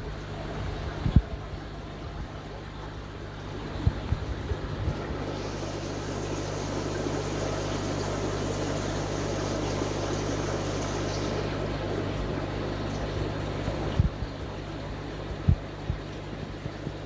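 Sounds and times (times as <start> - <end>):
air pump hum: 0.0 - 17.0
bubbling water: 0.0 - 17.0.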